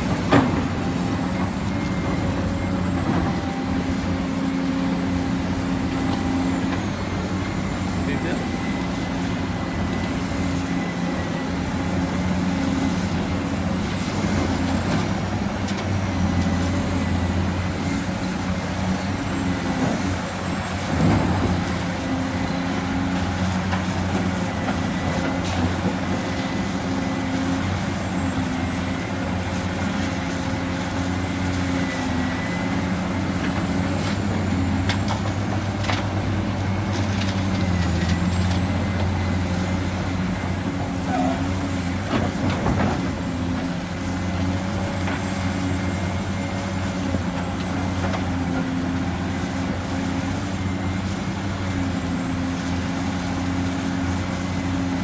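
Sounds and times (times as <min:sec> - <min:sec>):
low engine-like hum: 0:00.0 - 0:55.0.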